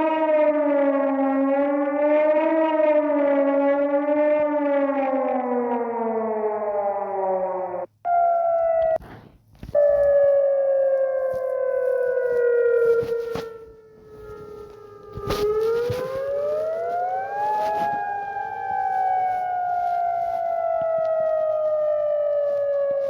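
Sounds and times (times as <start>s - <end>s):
warning siren wailing: 0.0s - 9.1s, 9.7s - 23.0s.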